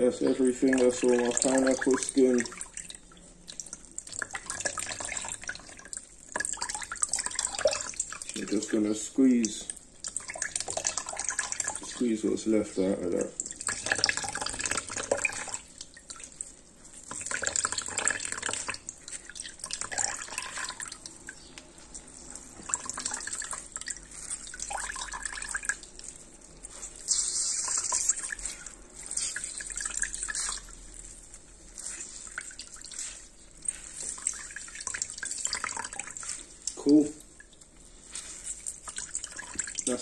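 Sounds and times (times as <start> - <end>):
liquid trickling into jug: 0.2 - 12.4, 13.0 - 40.0.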